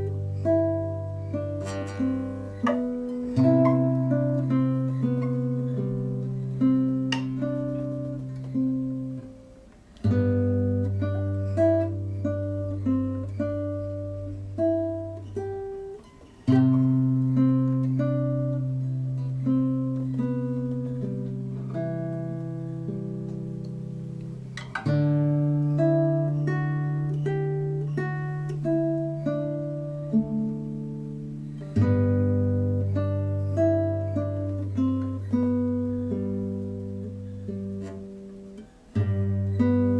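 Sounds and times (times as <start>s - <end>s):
acoustic guitar improvisation: 0.0s - 39.9s.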